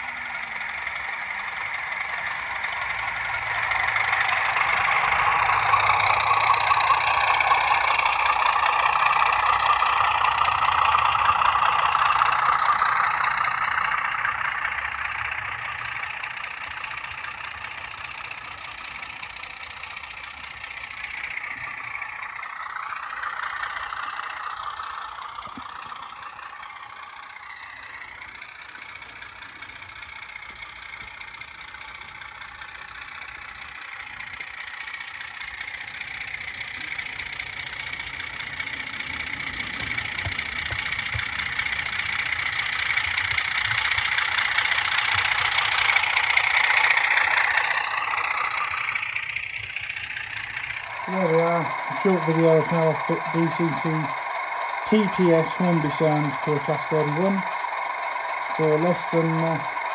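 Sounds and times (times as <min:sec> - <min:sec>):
model train diesel engine sound: 0:00.0 - 0:59.9.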